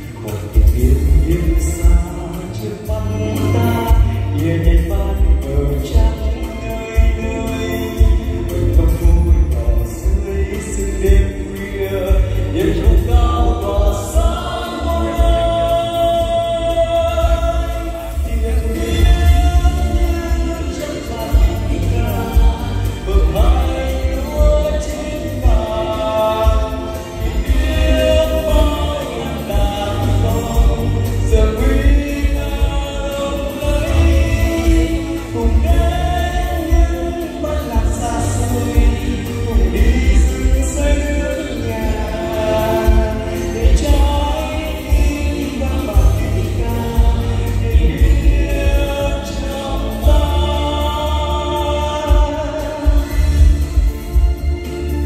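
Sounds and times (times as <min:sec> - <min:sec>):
man singing into microphone: 0:00.0 - 0:54.4
amplified music with bass beat: 0:00.0 - 0:55.0.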